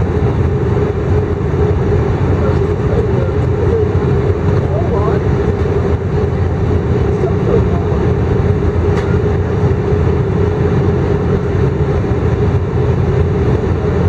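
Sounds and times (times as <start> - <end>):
airplane cabin engine rush: 0.0 - 14.0
steady hum: 0.0 - 14.0.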